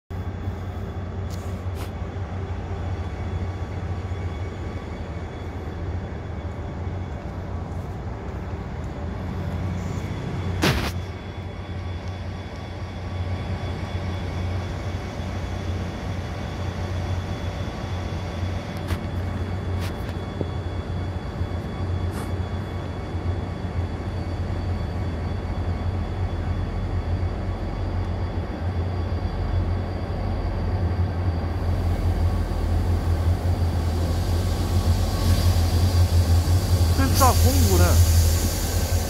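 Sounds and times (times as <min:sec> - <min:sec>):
diesel locomotive rumbling: 0:00.1 - 0:39.0.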